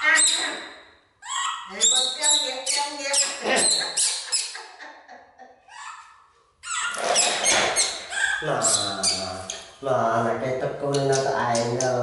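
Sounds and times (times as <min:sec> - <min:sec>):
baby monkey squealing: 0:00.0 - 0:04.9, 0:05.7 - 0:09.8, 0:10.9 - 0:11.8.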